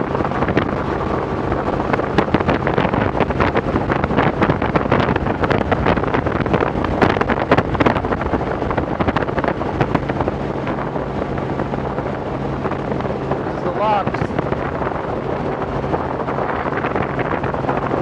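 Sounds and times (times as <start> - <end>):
helicopter engine and rotor hum: 0.0 - 4.7, 6.2 - 18.0
wind buffeting microphone: 0.0 - 18.0.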